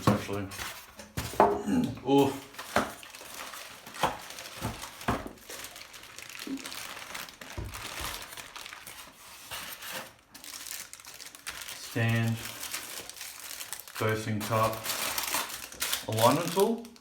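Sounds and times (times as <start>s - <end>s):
packaging crinkling and rustling: 0.0s - 1.4s, 2.1s - 17.0s.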